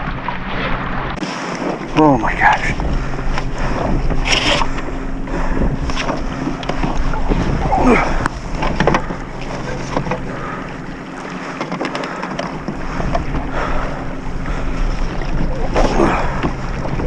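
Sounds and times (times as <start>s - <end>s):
knocks and splashes against hull: 0.0s - 17.0s
water lapping at a kayak: 0.0s - 17.0s
wind buffeting microphone: 0.0s - 17.0s.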